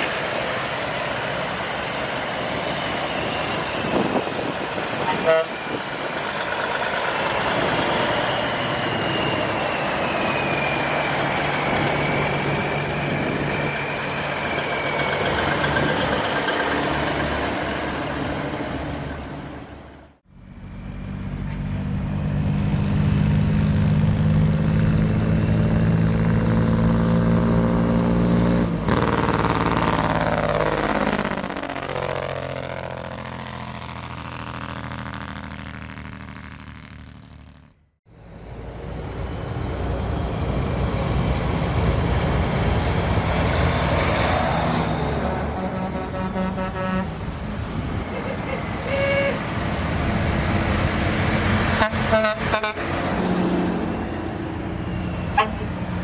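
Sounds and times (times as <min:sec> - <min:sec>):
truck engines driving by: 0:00.0 - 0:56.0.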